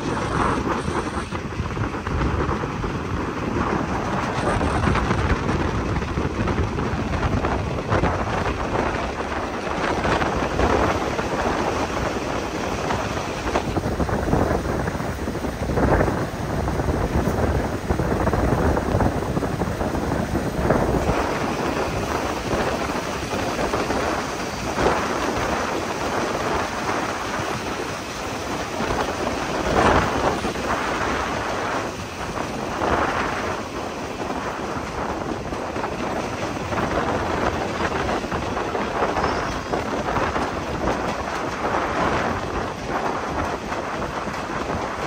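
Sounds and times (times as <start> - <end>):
train rumbling on track: 0.0 - 45.0
wind on microphone: 0.0 - 45.0.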